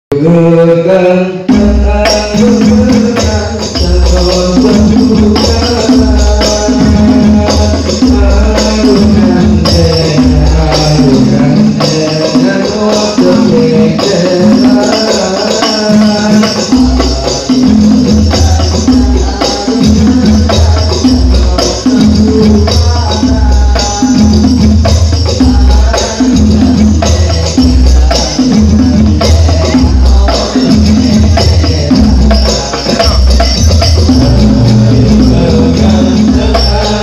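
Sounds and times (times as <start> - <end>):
men singing devotional song: 0.1 - 37.0
frame drums: 1.4 - 37.0.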